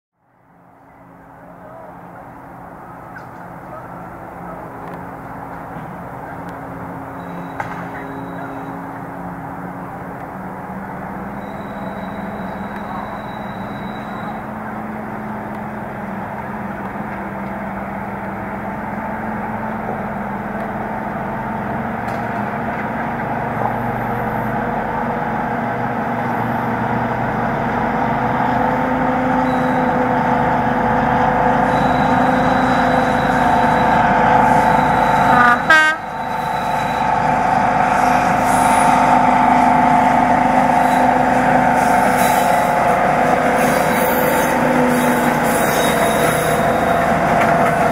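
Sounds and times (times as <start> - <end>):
diesel locomotive engine drone: 0.2 - 47.9.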